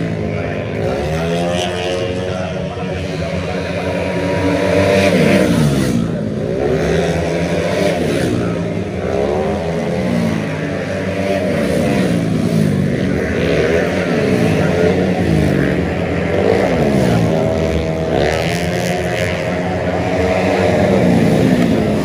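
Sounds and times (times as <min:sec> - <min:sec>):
scooter engines revving past: 0:00.0 - 0:22.0.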